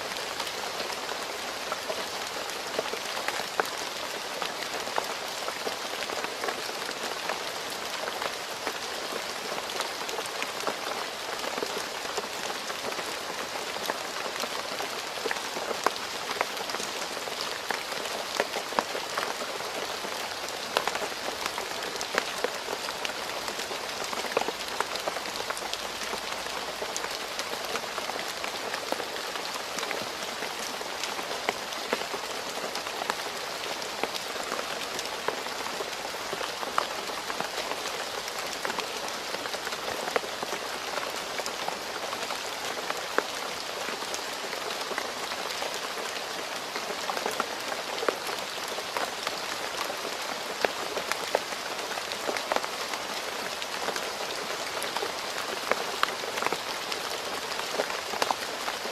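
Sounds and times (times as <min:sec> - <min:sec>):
rain falling on a road: 0:00.0 - 0:58.9.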